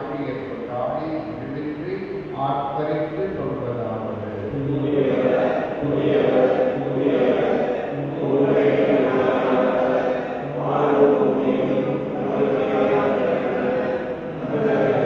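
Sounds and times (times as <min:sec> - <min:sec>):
voice singing chant: 0:00.0 - 0:15.0.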